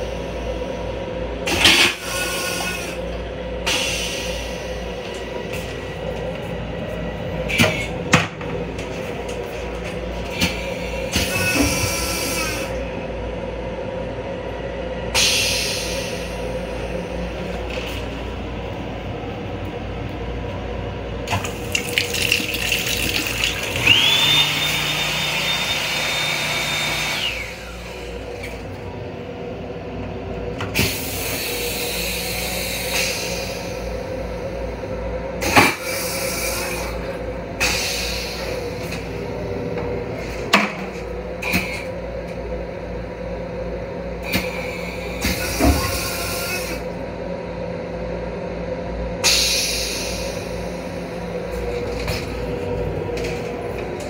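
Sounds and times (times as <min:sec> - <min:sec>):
railcar running rumble: 0:00.0 - 0:24.8, 0:25.4 - 0:54.0
sink unit rushing and whine: 0:00.0 - 0:54.0.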